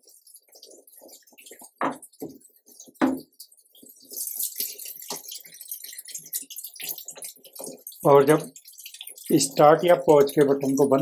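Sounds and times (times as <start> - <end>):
water running into washing machine: 0.0 - 11.0.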